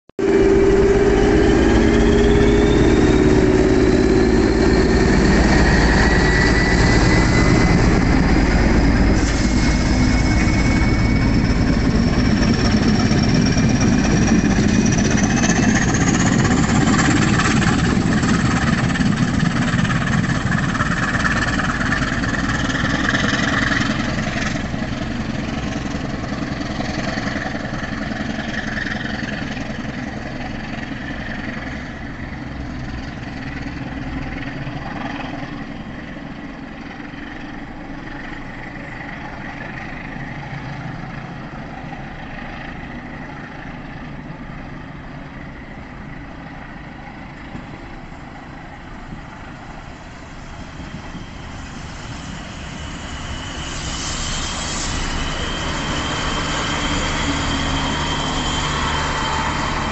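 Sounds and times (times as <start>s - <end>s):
high rising whine: 0.2s - 36.1s, 37.0s - 59.9s
diesel locomotive engine throb: 0.2s - 59.9s.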